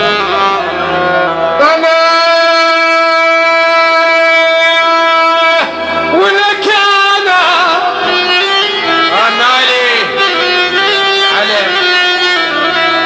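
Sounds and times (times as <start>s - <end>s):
ornamented melody with trills: 0.0s - 13.0s.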